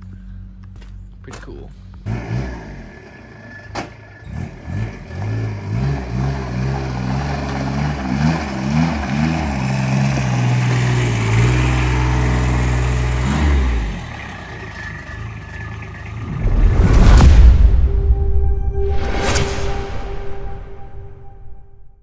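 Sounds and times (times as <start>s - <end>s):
utility vehicle engine running: 0.0s - 18.5s.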